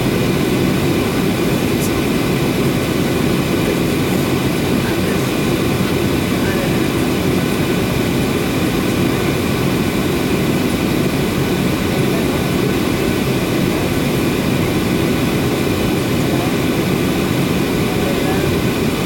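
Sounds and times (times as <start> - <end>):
jet airliner roar in flight: 0.0 - 19.0.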